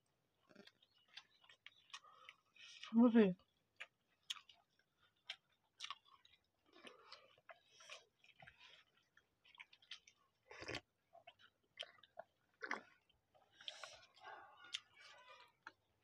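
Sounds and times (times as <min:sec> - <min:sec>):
people chewing and lip smacking: 0:00.3 - 0:16.0.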